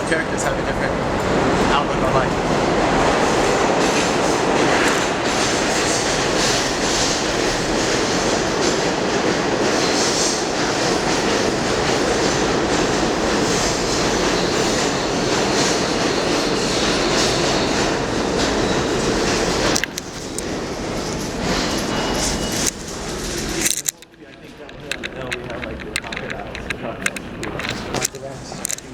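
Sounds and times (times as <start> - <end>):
subway train rumbling on rails: 0.0 - 28.9.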